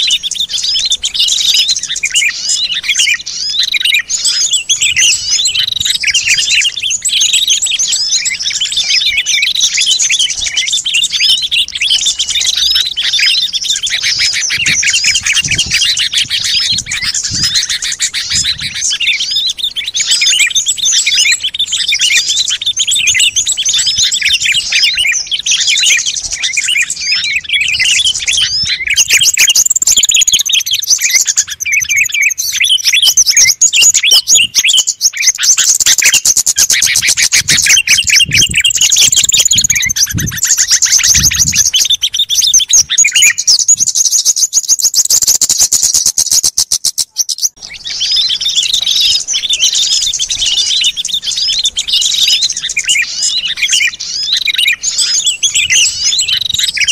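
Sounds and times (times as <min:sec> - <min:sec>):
bird fast trill: 0:00.0 - 0:56.9
songbirds chirping chorus: 0:00.0 - 0:56.9.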